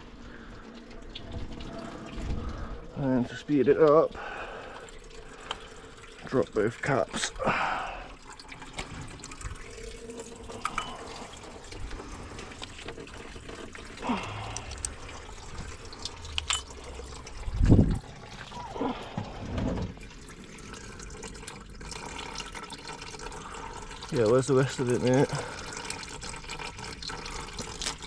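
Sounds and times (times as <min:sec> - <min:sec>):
coolant trickling: 0:00.0 - 0:28.0.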